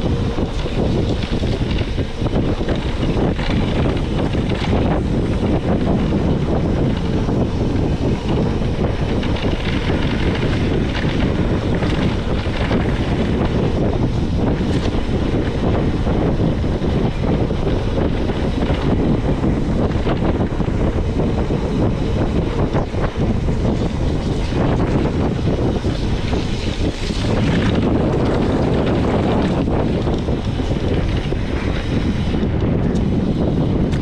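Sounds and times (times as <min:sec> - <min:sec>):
tyres rolling over dirt: 0:00.0 - 0:34.0
wind buffeting microphone: 0:00.0 - 0:34.0.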